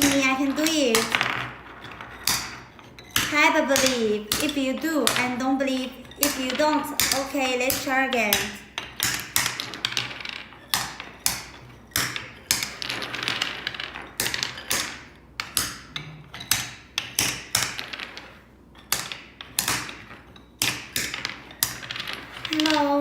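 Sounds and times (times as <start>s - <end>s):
wooden beads clacking: 0.0s - 23.0s.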